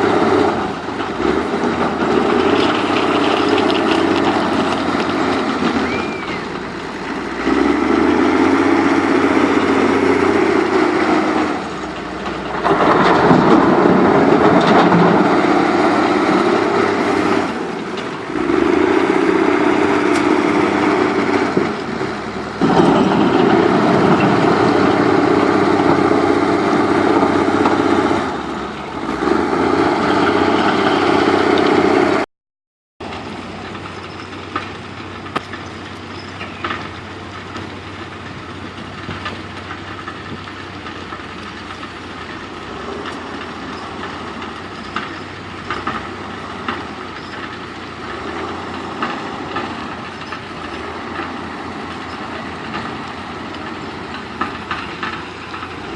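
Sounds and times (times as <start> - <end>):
backhoe diesel engine working: 0.0 - 32.3, 33.0 - 55.9.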